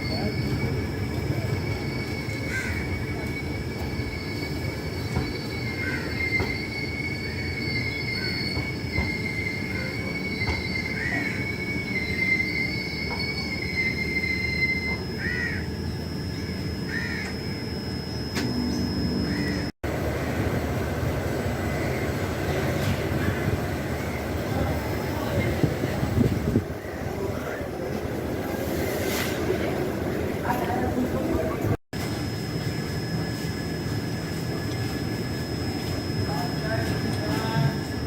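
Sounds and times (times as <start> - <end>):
train wheels squealing on rails: 0.0 - 19.7, 21.3 - 38.0
rumble of moving train coaches: 0.0 - 38.0.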